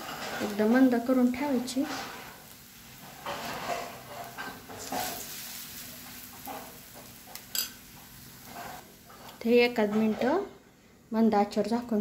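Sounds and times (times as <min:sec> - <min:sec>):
batter sizzling in hot oil: 0:00.0 - 0:09.9.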